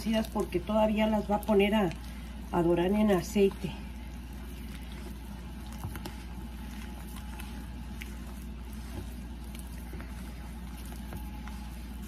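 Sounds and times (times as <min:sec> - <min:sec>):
hands squishing dough: 0:00.0 - 0:12.0
steady low hum: 0:00.0 - 0:12.0.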